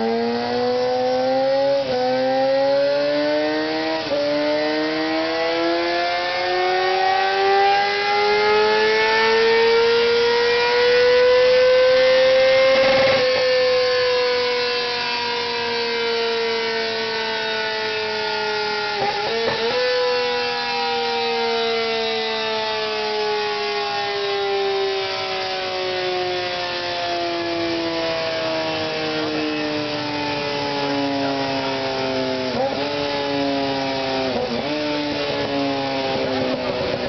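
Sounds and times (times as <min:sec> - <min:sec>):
motorcycle engine revving high: 0:00.0 - 0:37.0.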